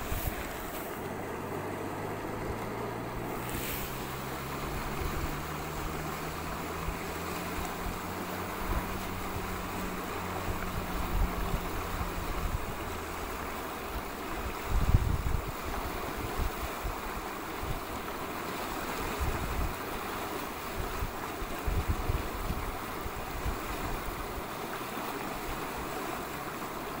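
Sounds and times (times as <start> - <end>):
wind buffeting microphone: 0.0 - 17.9, 19.0 - 24.6
river water: 0.0 - 27.0.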